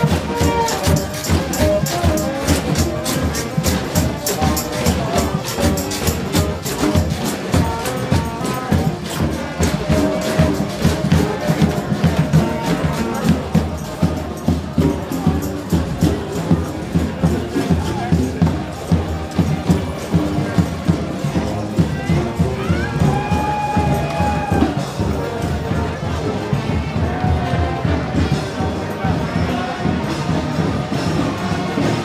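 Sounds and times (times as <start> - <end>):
loud music with fast drum beat: 0.0 - 32.0.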